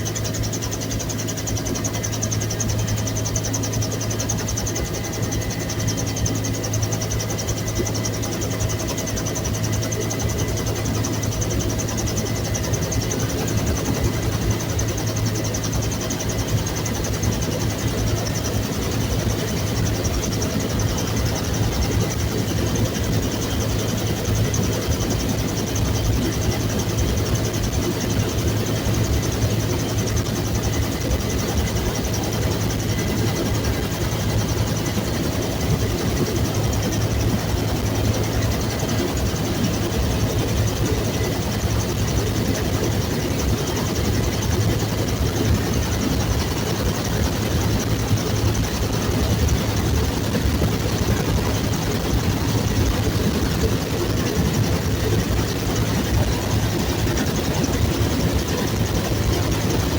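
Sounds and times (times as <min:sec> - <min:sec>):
helicopter rotor and turbine drone: 0:00.0 - 0:59.9.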